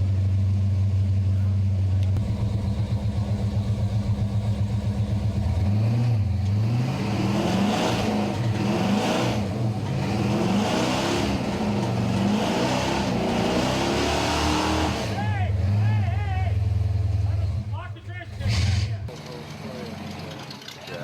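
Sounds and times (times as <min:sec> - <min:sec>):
truck engine revving: 0:00.0 - 0:20.6.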